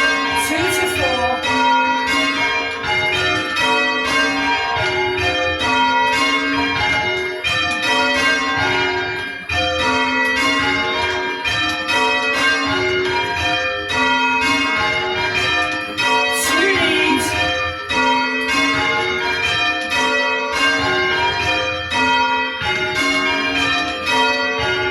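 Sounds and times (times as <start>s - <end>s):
church bells change ringing: 0.0s - 24.9s.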